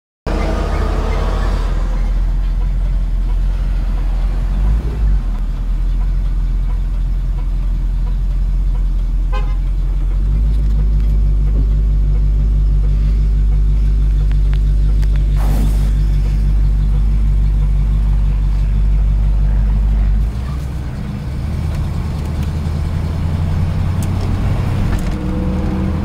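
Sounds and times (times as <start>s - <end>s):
car engine rumbling: 0.2s - 26.0s.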